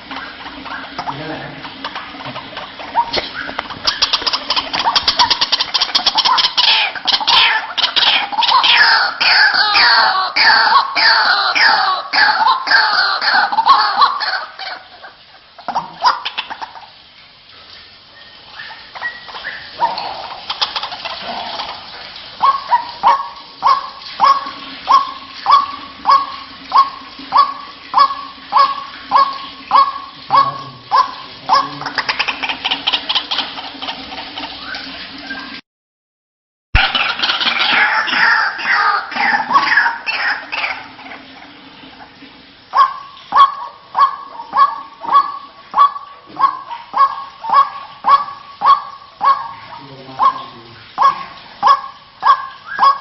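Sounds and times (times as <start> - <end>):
waterhen calling harsh notes: 0.0 - 35.6, 36.8 - 53.0.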